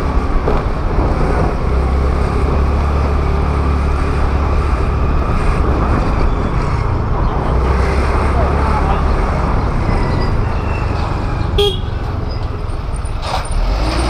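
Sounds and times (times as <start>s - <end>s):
wind rumble on microphone: 0.0s - 13.2s
road and traffic noise: 0.0s - 14.0s.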